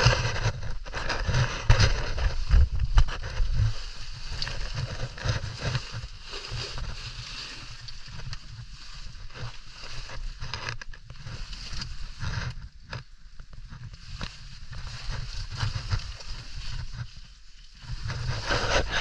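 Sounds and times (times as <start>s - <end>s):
rustling and scraping on rock: 0.0s - 19.0s.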